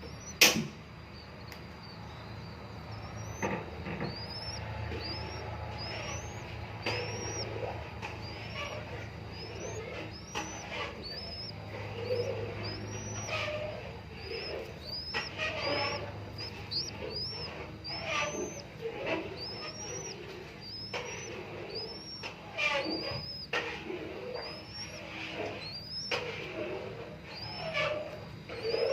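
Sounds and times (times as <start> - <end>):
high rising bird chirps: 0.0 - 28.9
dove cooing: 2.6 - 28.9.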